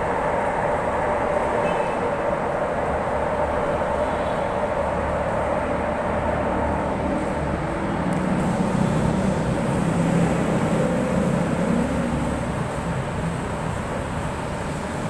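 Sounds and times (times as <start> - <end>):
metro train rumble and hum: 0.0 - 15.0.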